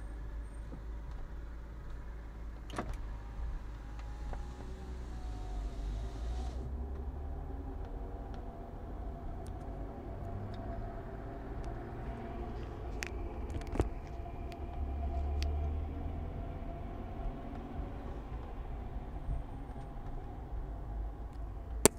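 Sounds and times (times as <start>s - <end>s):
car road and engine rumble: 0.0s - 21.9s.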